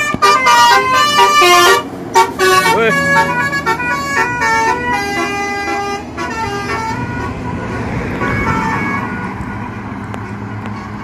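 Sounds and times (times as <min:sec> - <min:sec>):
bus engine pulling away: 0:00.0 - 0:11.0
musical bus horn melody: 0:00.0 - 0:11.0.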